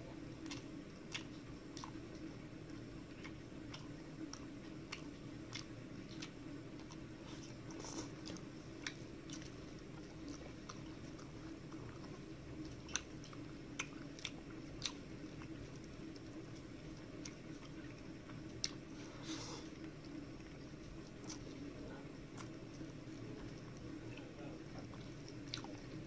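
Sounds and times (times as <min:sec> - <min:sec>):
low steady hum: 0:00.0 - 0:26.0
chewing and mouth smacks: 0:00.4 - 0:26.0.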